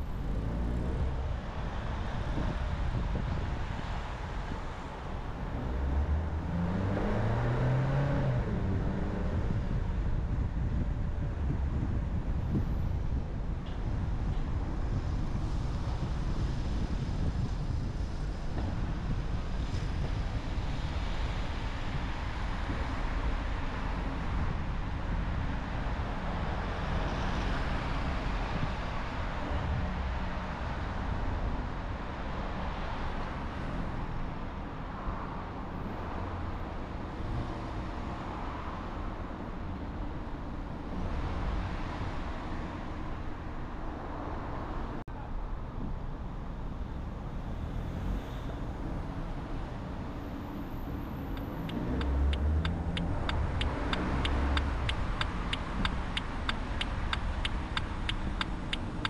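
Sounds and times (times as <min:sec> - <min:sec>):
car engine rumble: 0:00.0 - 0:59.0
surrounding traffic: 0:00.0 - 0:59.0
tyre and road noise: 0:00.0 - 0:59.0.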